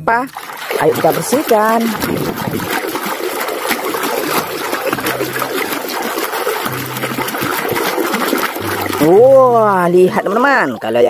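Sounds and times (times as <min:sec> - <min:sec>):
running water splashing: 0:00.0 - 0:11.0.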